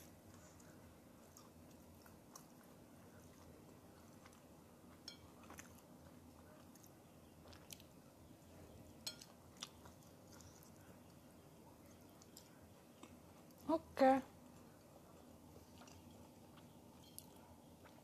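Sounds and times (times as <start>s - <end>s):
faint chewing: 0.0s - 18.0s.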